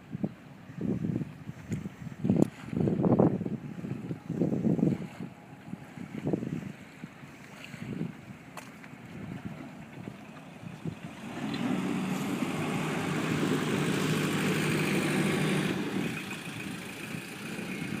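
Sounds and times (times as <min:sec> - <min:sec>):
boat engine running: 0:00.2 - 0:18.0.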